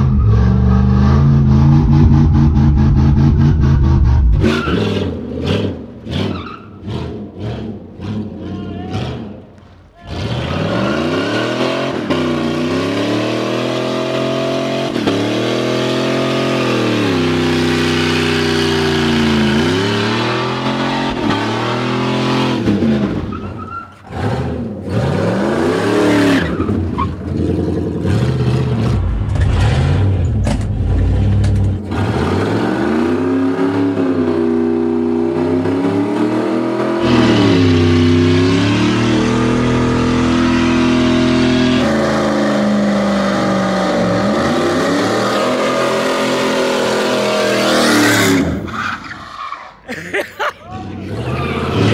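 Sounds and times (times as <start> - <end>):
engine revving: 0.0 - 9.4, 10.1 - 23.3, 24.1 - 48.7, 50.9 - 51.9.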